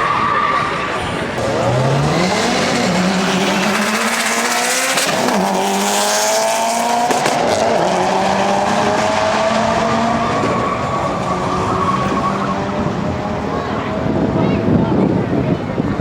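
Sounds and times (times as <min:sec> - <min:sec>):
car engine accelerating hard: 0:01.3 - 0:14.8.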